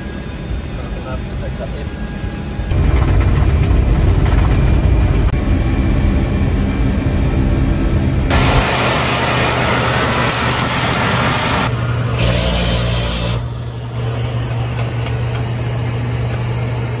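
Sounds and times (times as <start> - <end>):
tank turbine engine running: 0.0 - 17.0.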